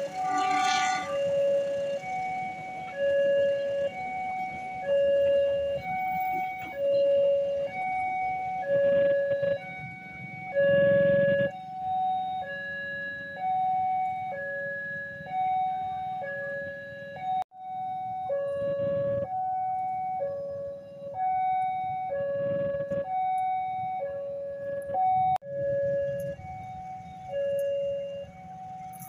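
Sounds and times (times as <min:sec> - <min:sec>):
low rumble of passing traffic: 0:00.0 - 0:29.0
two-tone crossing alarm: 0:00.0 - 0:29.0.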